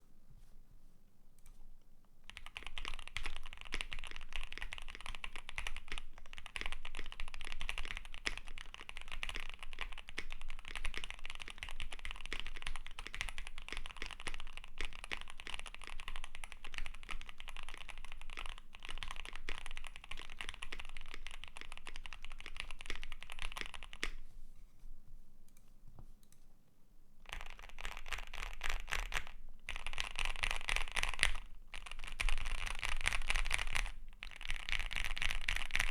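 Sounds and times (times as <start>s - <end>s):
fast typing on mechanical keyboard: 2.3s - 24.2s, 27.3s - 35.9s.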